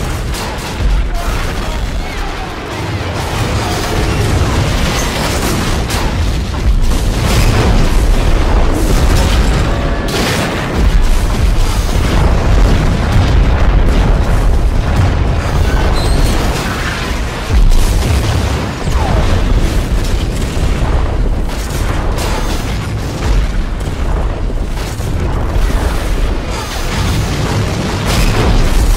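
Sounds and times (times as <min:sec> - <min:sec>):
rapid explosions with rumble: 0:00.0 - 0:28.9.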